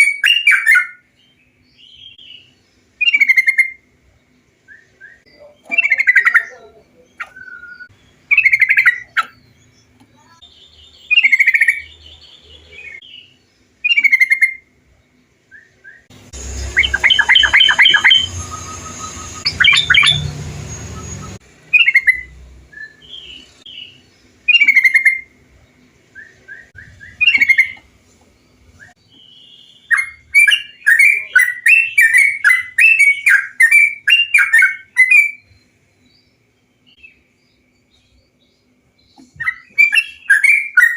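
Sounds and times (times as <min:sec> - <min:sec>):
bird singing bubbling phrases: 0:01.8 - 0:14.7, 0:15.6 - 0:27.9, 0:28.7 - 0:35.7, 0:38.7 - 0:40.9.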